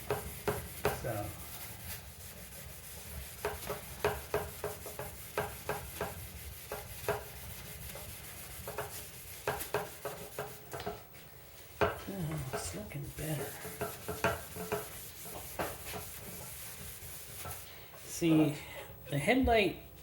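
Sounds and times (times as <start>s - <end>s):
scrubbing pad rasping on plastic: 0.0s - 10.8s, 12.4s - 18.2s.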